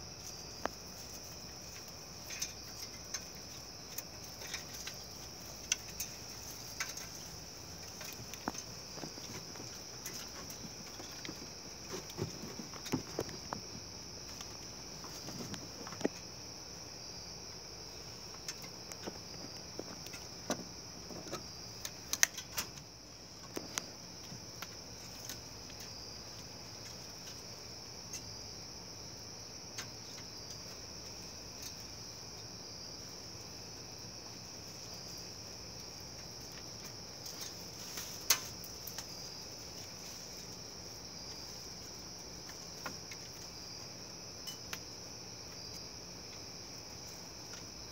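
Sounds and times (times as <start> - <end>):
crickets chirring: 0.0 - 47.9.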